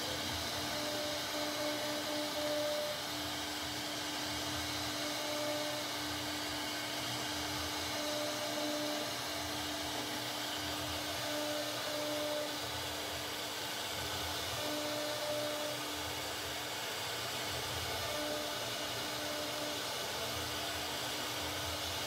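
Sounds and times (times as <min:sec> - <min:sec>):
cutter hissing in wood: 0:00.0 - 0:22.0
router spindle whining: 0:00.0 - 0:22.0.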